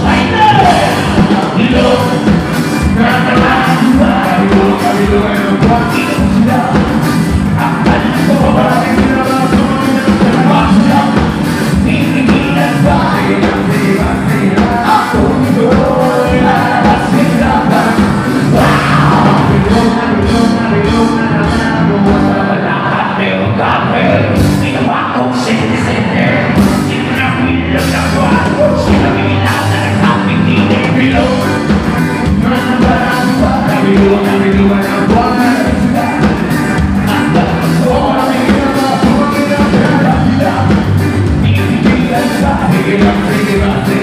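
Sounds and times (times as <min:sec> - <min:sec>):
bass guitar: 0:00.0 - 0:44.0
drums: 0:00.0 - 0:44.0
live rock band playing: 0:00.0 - 0:44.0
person singing: 0:00.0 - 0:44.0.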